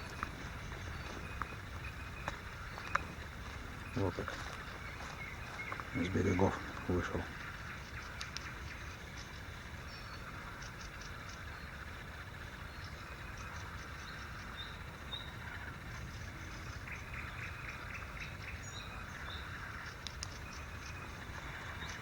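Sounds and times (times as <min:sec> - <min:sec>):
birds chirping and singing: 0:00.0 - 0:22.0
steady low rumble: 0:00.0 - 0:22.0.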